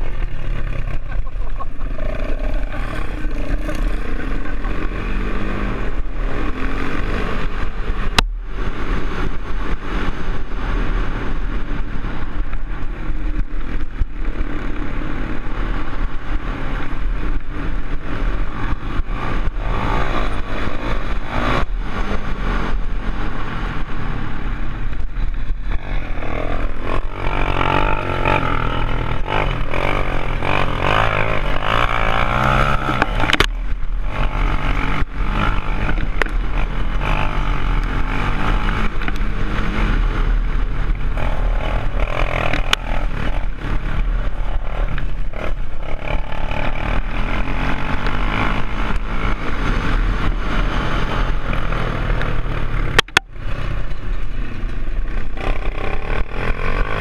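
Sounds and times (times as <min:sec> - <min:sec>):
atv engine revving: 0:00.0 - 0:57.0
rough-ground noise: 0:00.0 - 0:57.0.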